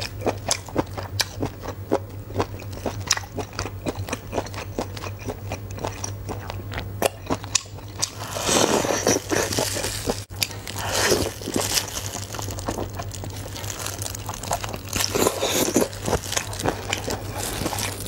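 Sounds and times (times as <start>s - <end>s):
wet biting and chewing: 2.4s - 18.0s.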